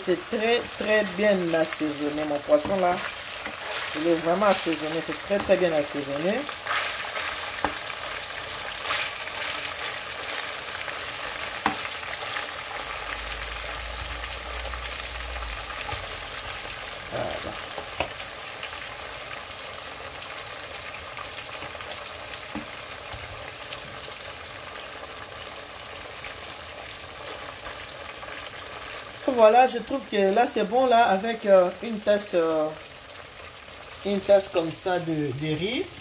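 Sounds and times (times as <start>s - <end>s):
fish sizzling in hot oil: 0.0s - 36.0s.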